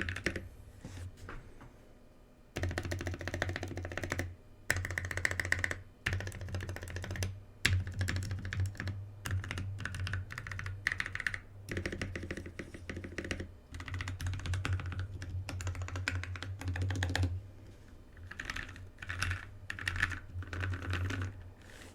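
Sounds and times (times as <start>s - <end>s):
mechanical keyboard typing: 0.0s - 0.4s, 2.6s - 17.3s, 18.2s - 21.4s.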